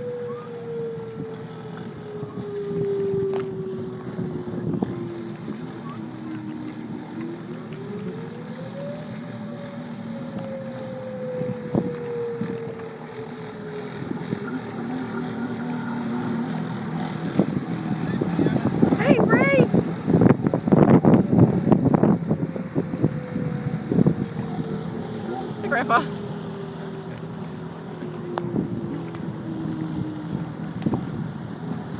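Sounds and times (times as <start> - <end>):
jet ski engine whine: 0.0 - 31.9
wind buffeting microphone: 0.0 - 31.9.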